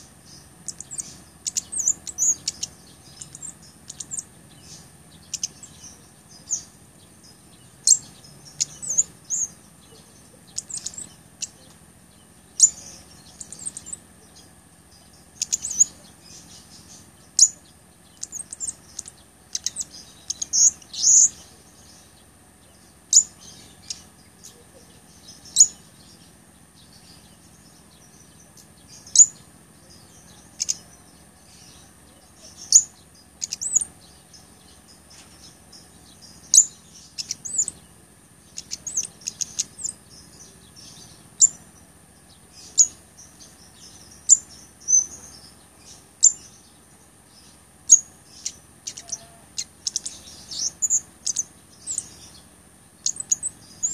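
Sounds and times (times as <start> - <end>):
bird high-pitched chips: 0.0 - 22.2, 28.0 - 34.0, 34.6 - 37.8, 38.5 - 46.6, 47.9 - 53.9.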